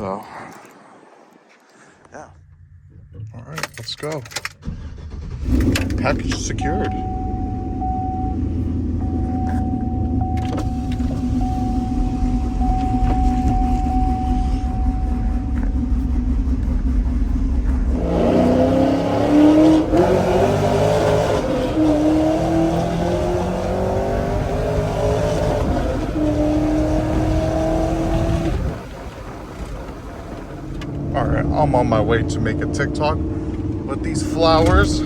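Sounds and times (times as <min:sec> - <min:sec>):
pickup engine accelerating: 0:04.6 - 0:35.0.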